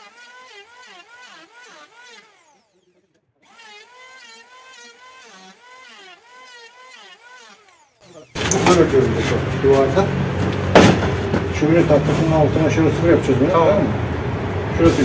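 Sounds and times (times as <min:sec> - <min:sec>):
power tool cutting wood: 0:00.0 - 0:15.0.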